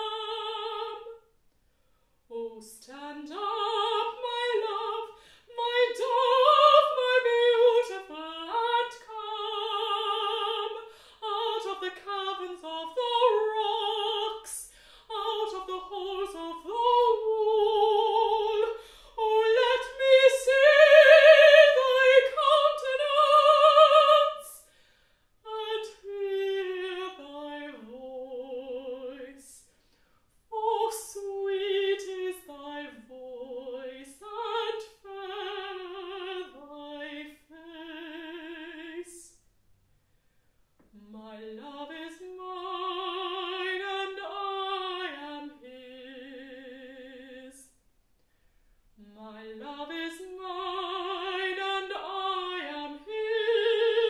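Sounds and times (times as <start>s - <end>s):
woman singing classical with vibrato: 0.0s - 1.4s, 2.2s - 39.4s, 40.8s - 47.8s, 48.9s - 54.0s.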